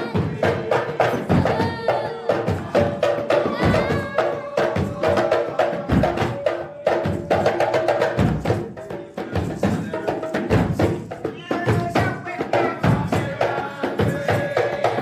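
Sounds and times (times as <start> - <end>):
percussion-led music: 0.0 - 15.0.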